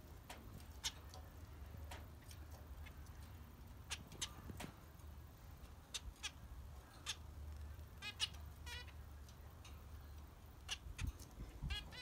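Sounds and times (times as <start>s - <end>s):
zebra finches calling: 0.6s - 4.6s, 5.6s - 12.0s.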